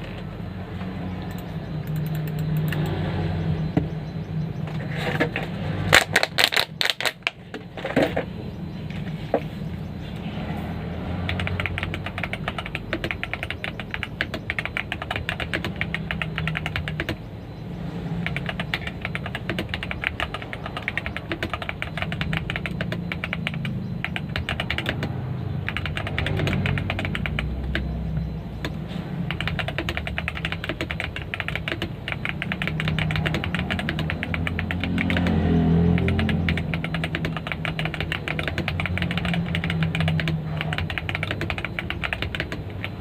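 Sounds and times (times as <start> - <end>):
mechanical keyboard typing: 1.3 - 3.0, 5.2 - 7.4, 11.2 - 17.2, 18.2 - 43.0.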